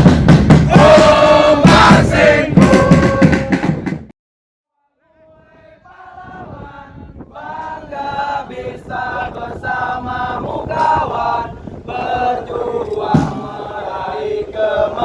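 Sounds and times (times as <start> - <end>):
group singing in unison: 0.7 - 3.7, 5.1 - 15.0.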